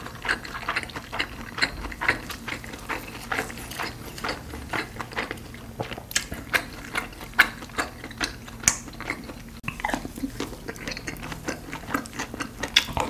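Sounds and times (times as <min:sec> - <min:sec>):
wet chewing clicks and smacks: 0:00.0 - 0:13.0.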